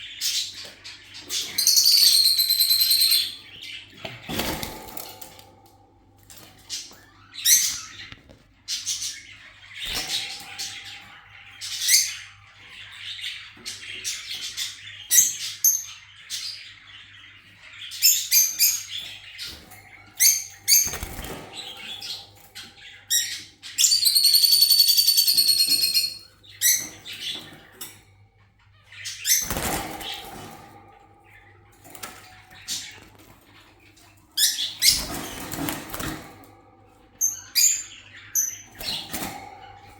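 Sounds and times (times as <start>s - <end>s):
parakeets chirping: 0.0s - 4.9s, 6.6s - 39.9s.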